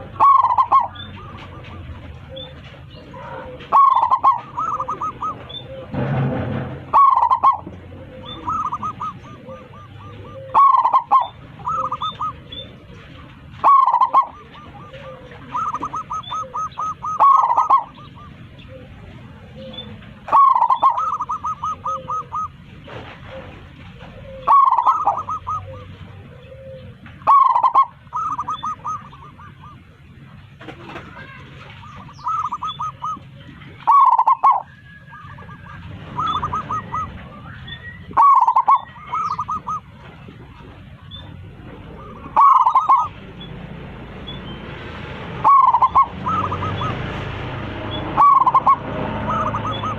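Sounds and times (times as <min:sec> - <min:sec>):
dove cooing: 0:00.0 - 0:43.3, 0:45.4 - 0:49.9.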